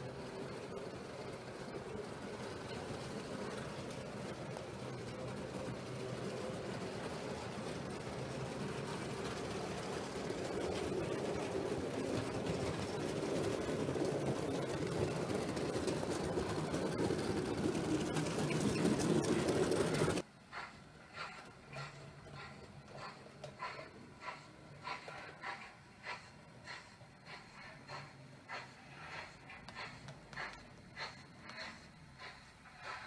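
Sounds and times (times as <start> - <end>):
model train rumbling on track: 0.0 - 33.0.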